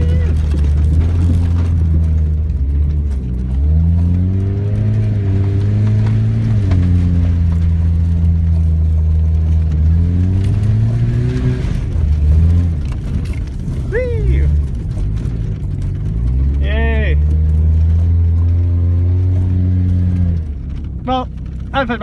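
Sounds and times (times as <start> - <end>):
pickup engine revving: 0.0 - 22.0.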